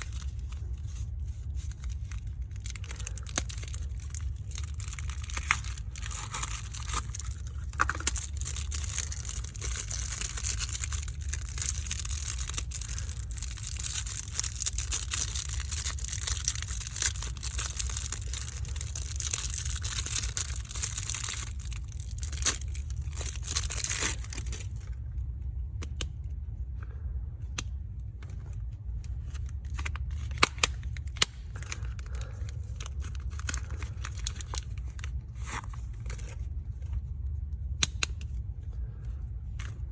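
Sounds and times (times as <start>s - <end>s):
packaging crinkling and tearing: 0.0s - 25.0s, 29.1s - 37.0s
steady low hum: 0.0s - 39.9s.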